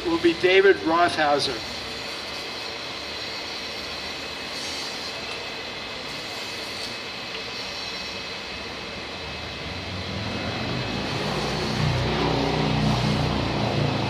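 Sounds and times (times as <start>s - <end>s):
mechanical hum and hiss: 0.0s - 14.0s.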